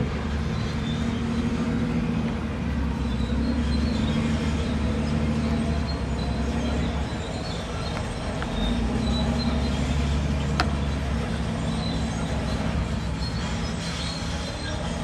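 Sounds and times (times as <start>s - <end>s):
diesel engine running under load: 0.0s - 15.0s
faint metallic squeaks from tracks: 0.2s - 15.0s.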